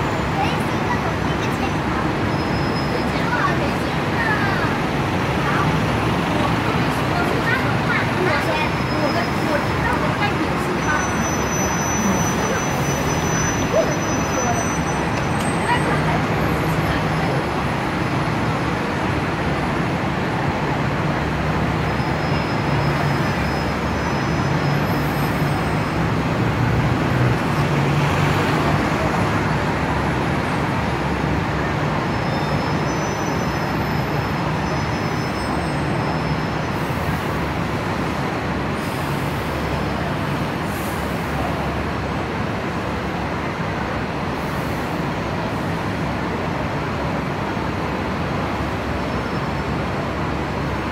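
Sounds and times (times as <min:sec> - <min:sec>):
street traffic noise: 0:00.0 - 0:50.9.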